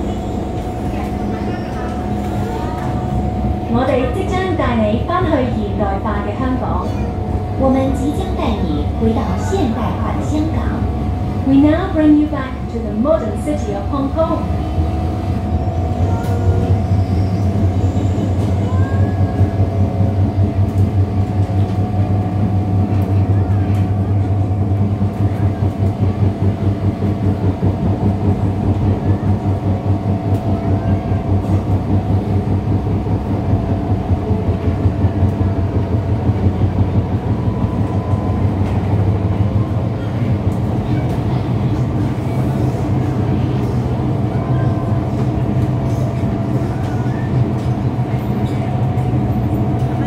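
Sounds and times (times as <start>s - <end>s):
train running on board hum: 0.0s - 50.0s.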